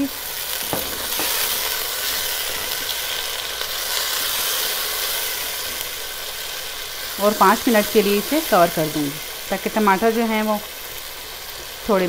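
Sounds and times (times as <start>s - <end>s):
masala sizzling in hot oil: 0.0s - 12.0s.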